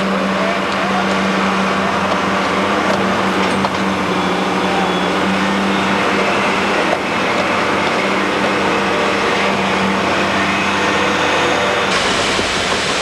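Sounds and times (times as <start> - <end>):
diesel machinery engine droning: 0.0 - 13.0.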